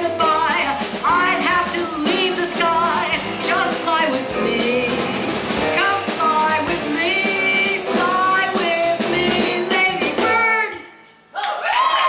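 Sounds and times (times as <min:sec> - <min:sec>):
jazz combo playing: 0:00.0 - 0:10.9.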